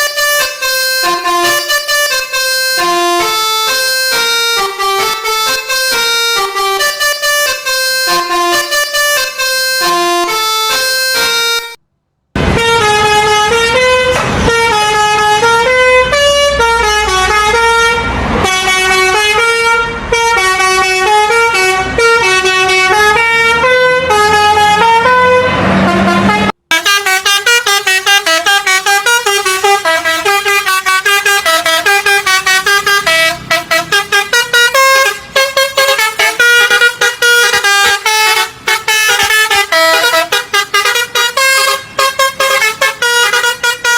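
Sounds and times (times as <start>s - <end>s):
musical bus horns: 0.0s - 11.8s, 12.4s - 43.9s.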